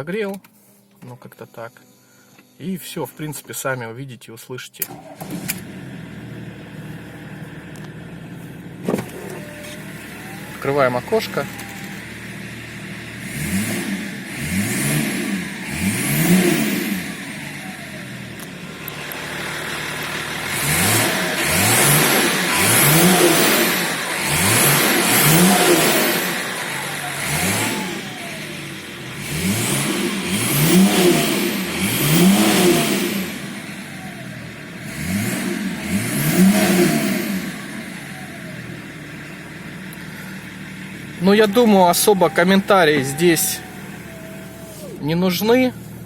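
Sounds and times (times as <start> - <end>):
diesel engine revving: 4.8 - 46.0.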